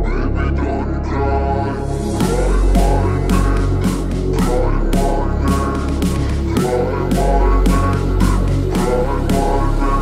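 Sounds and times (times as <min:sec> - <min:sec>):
instrumental house music: 0:01.8 - 0:10.0.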